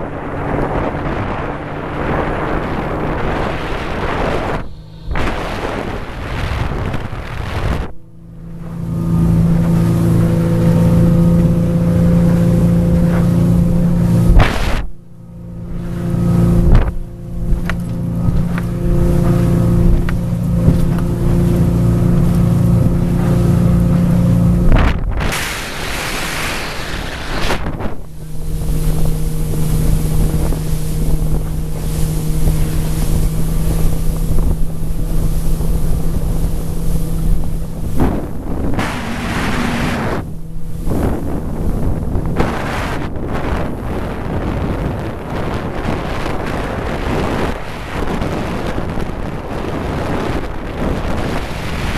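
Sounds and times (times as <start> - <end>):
motorboat engine drone: 0.0 - 51.9
water rushing past hull: 0.0 - 51.9
wind on microphone: 0.0 - 51.9.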